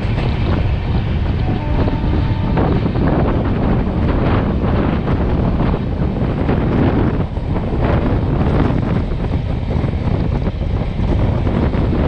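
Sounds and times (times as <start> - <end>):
passenger train running: 0.0 - 12.0
wind buffeting microphone: 0.0 - 12.0.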